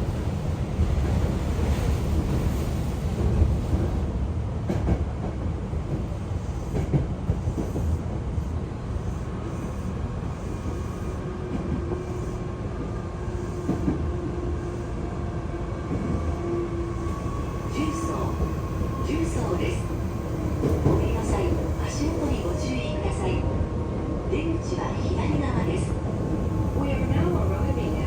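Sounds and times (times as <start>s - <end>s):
train rumble on rails: 0.0s - 28.0s.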